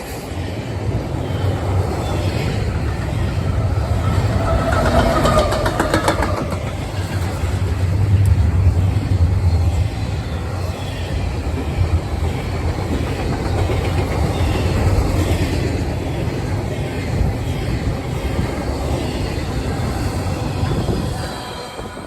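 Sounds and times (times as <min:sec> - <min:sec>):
freight train wheels on rail joints: 0:00.0 - 0:22.0.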